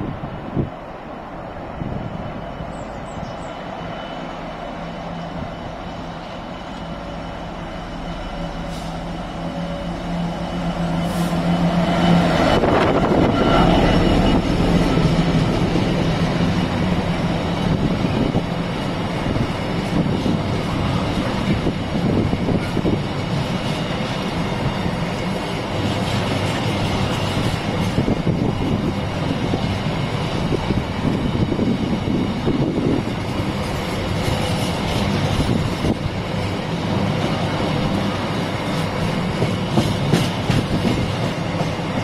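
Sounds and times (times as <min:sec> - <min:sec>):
low train hum: 0:00.0 - 0:42.0
rolling rail noise: 0:00.0 - 0:42.0.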